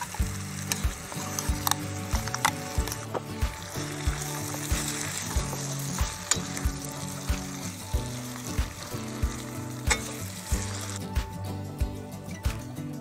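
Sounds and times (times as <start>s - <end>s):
food sizzling in a pan: 0.0s - 11.4s
background music with beat: 0.0s - 13.0s.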